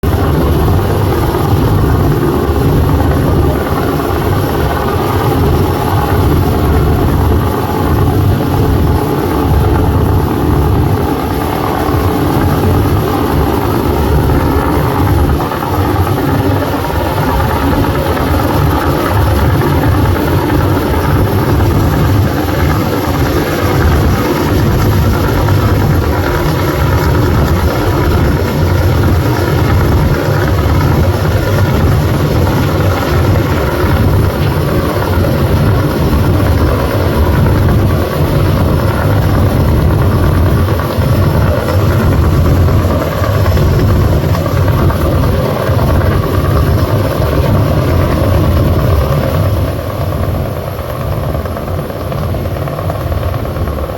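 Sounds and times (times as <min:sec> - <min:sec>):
fast-moving vehicle rumble: 0:00.0 - 0:53.9.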